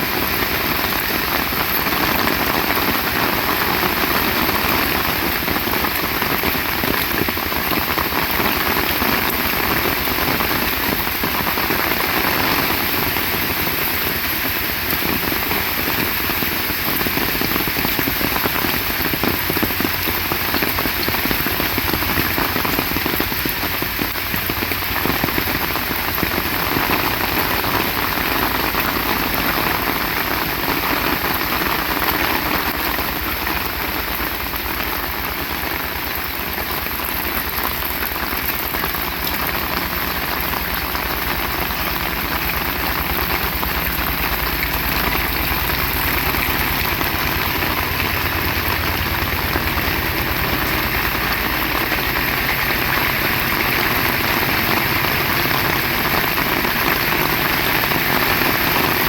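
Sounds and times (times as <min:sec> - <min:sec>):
heavy rain splashing: 0:00.0 - 0:59.0.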